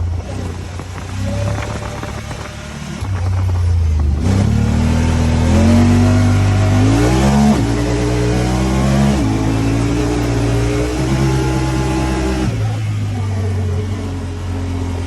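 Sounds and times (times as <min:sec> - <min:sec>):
engine accelerating hard: 0:00.0 - 0:15.0.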